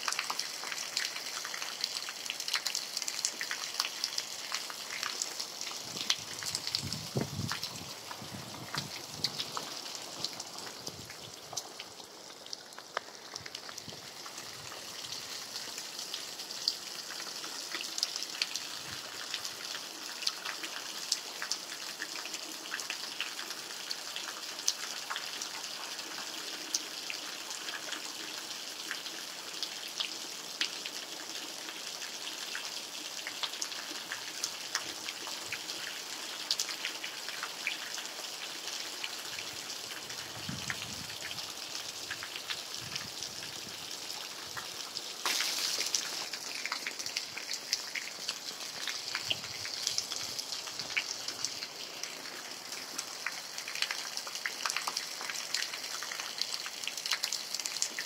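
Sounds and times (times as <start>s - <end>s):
steady rain with dripping ticks: 0.0s - 58.0s.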